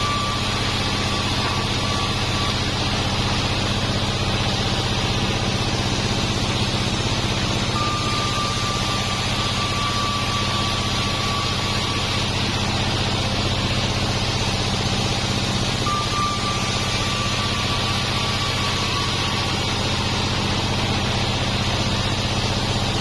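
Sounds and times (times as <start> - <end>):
bandsaw motor hum and hiss: 0.0 - 23.0
faint high whine: 0.0 - 23.0.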